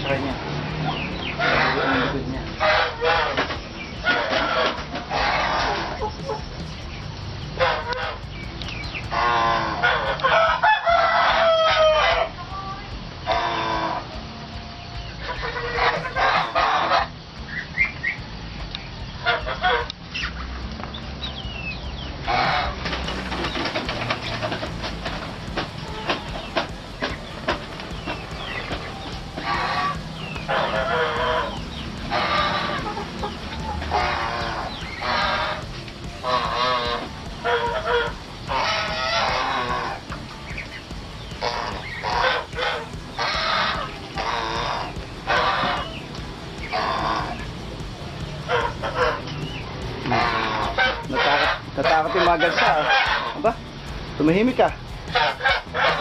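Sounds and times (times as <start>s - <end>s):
fowl squawking and cackling: 0.0s - 12.5s, 13.2s - 14.2s, 15.0s - 18.2s, 19.1s - 20.5s, 22.2s - 53.8s, 54.6s - 56.0s.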